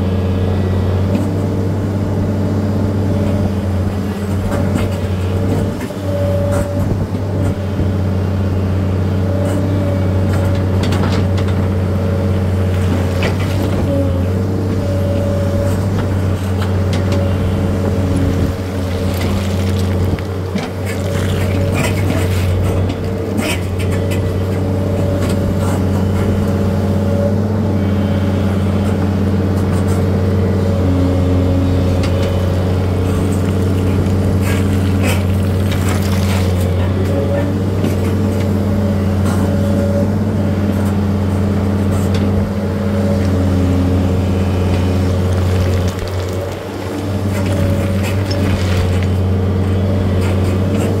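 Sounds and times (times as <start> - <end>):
machine engine running steadily: 0.0 - 51.0.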